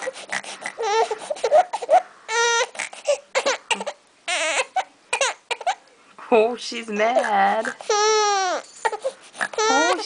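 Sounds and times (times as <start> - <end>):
baby crying: 0.0 - 5.8, 7.2 - 10.0.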